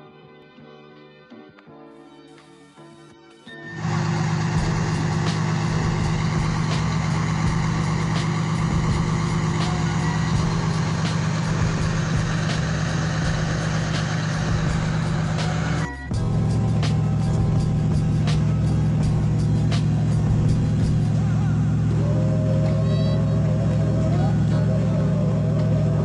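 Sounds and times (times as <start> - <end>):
diesel engine idling: 3.7 - 26.0.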